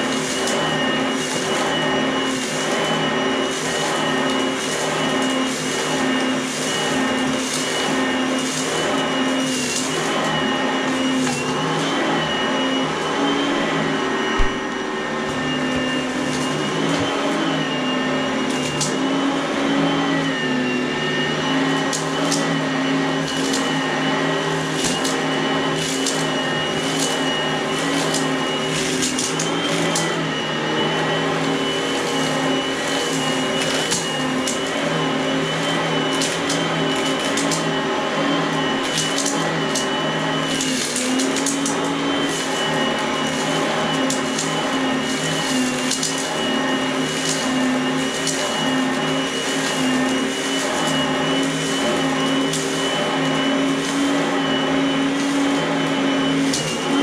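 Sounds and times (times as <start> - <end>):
vacuum cleaner whining: 0.0 - 57.0.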